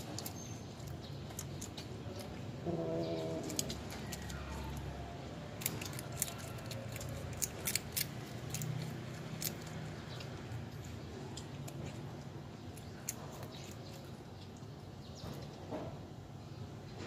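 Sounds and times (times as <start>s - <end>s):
kitten crunching shells: 0.0s - 14.8s.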